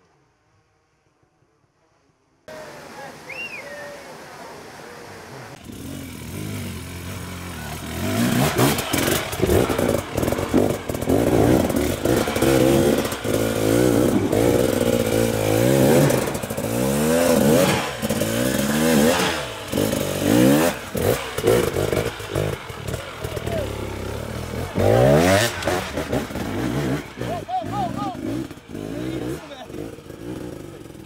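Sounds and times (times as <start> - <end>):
motorcycle engine revving: 5.5 - 31.0.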